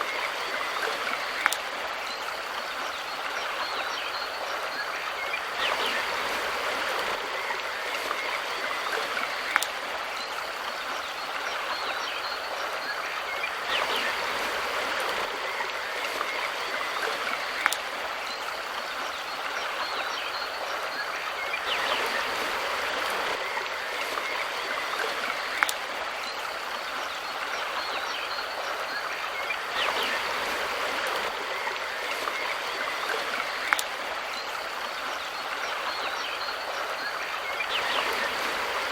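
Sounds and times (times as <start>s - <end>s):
river flowing: 0.0s - 38.9s.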